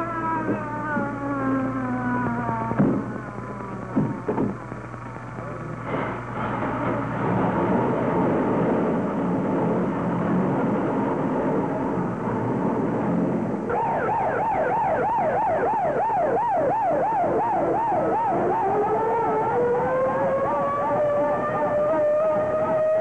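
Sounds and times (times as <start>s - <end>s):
fire engine siren yelping: 0.0s - 10.3s, 13.6s - 23.0s
loud dense noise: 0.0s - 23.0s.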